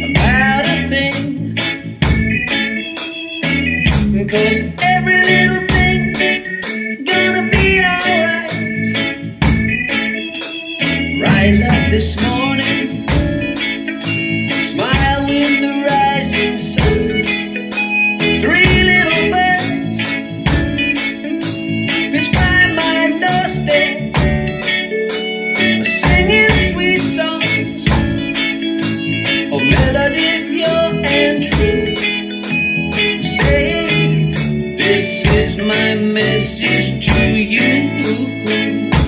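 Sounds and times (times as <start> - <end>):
drum kit playing: 0.0 - 39.0
reggae backing track with organ: 0.0 - 39.0.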